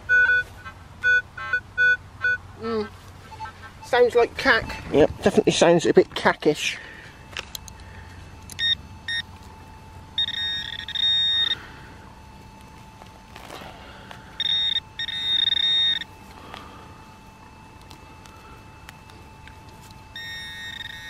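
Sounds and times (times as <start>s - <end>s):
metal detector beeps and tones: 0.0s - 2.4s, 3.2s - 5.5s, 6.6s - 21.0s
faint steady hum: 0.0s - 21.0s.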